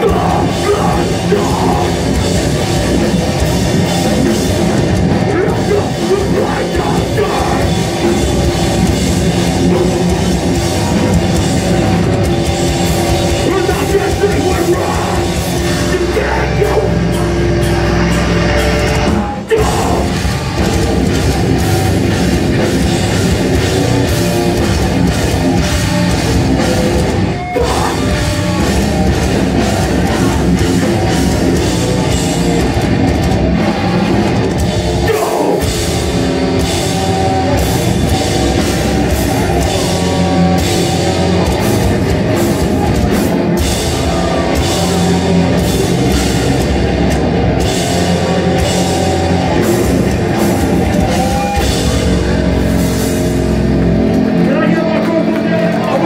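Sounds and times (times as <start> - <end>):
bass: 0.0 - 56.0
distorted electric guitars: 0.0 - 56.0
drum kit: 0.0 - 56.0.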